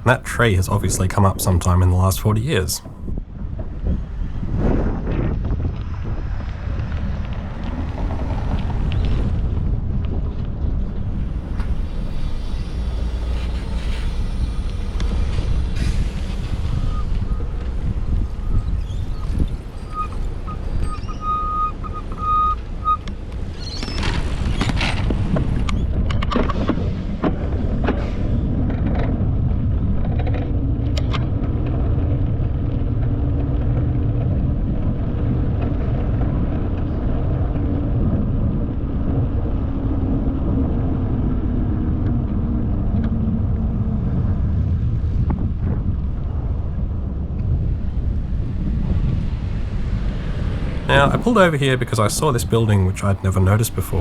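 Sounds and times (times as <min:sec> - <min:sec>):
wind rumble: 0:04.0 - 0:53.2.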